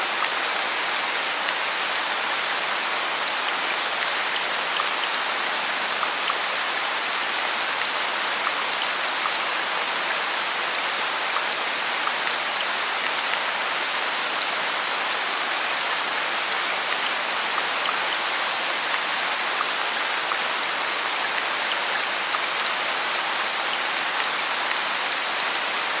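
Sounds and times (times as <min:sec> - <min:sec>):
heavy rain on foliage: 0:00.0 - 0:26.0.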